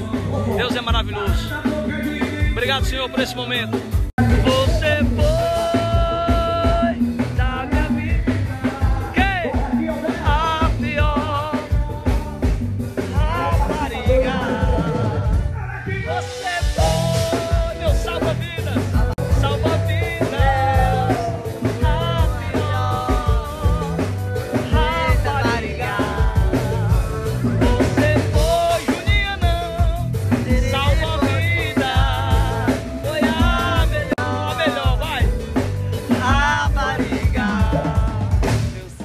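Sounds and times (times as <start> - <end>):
drums and bass beat: 0.0 - 39.0
person singing with vibrato: 0.0 - 39.0.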